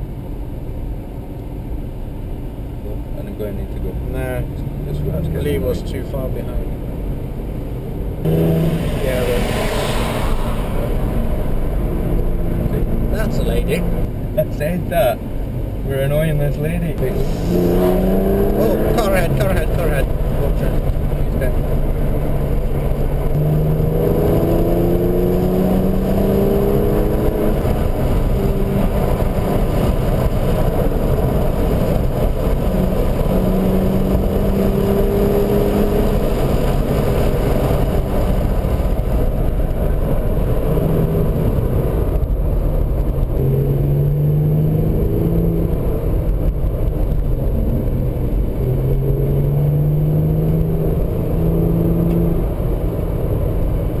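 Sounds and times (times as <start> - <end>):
road noise: 0.0 - 54.0
car engine accelerating: 1.4 - 54.0.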